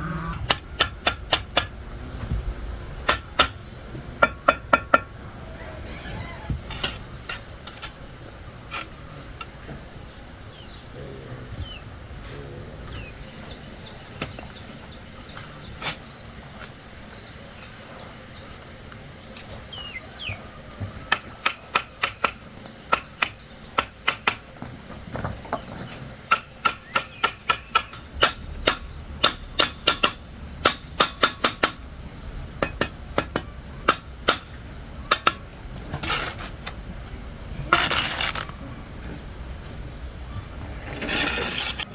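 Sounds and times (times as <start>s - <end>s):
high buzz of insects: 0.0s - 41.9s.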